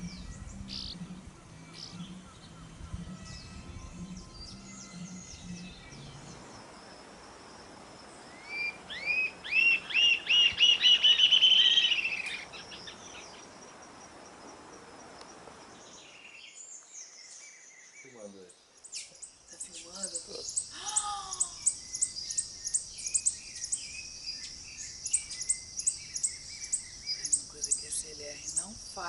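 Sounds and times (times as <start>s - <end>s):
other birds chirping: 0.0s - 29.0s
steady insect buzz: 0.0s - 29.0s.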